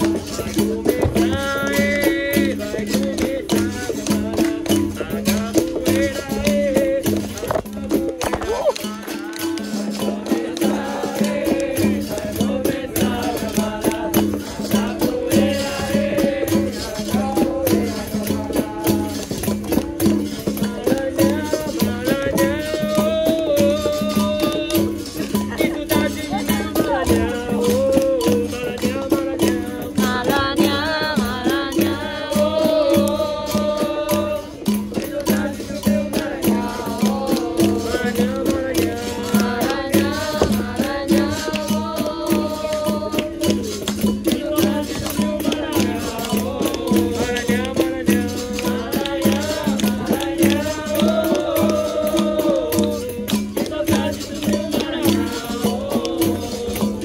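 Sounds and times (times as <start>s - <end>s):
berimbau: 0.0s - 57.0s
hand percussion: 0.0s - 57.0s
person singing: 0.0s - 57.0s
rattle shaking: 0.0s - 57.0s.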